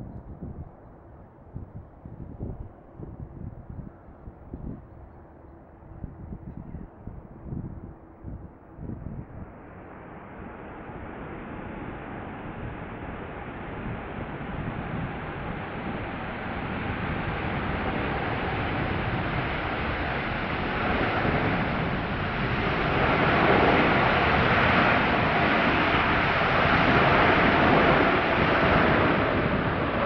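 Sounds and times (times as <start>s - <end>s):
wind buffeting microphone: 0.0s - 30.0s
jet airliner passing low: 0.3s - 30.0s.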